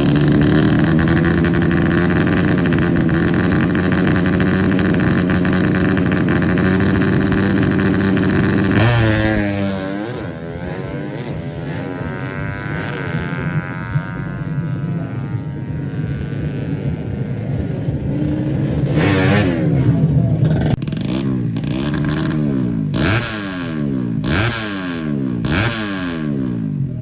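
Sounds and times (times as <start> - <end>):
engine revving in throttle blips: 0.0 - 27.0
motorcycle engine running: 0.0 - 27.0.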